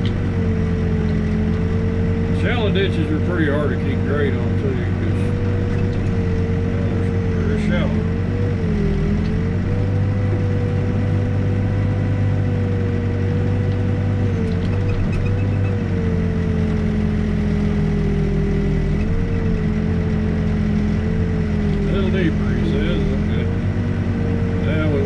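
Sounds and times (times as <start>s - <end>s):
backhoe diesel engine running: 0.0s - 25.0s.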